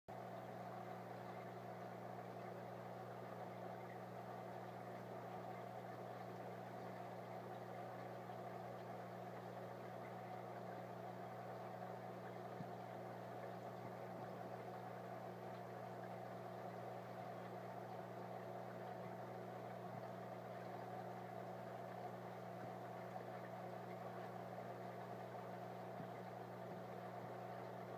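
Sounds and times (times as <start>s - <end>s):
aquarium pump humming: 0.1s - 27.9s.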